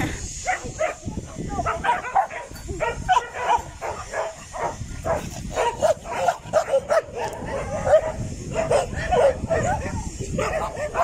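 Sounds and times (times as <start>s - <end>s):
dog barking aggressively: 1.6s - 11.0s.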